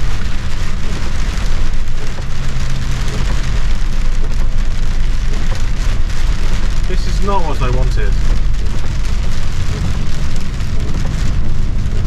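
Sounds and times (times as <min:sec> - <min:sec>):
diesel engine humming: 0:00.0 - 0:12.0
rain and hail pelting a cab: 0:00.0 - 0:12.0.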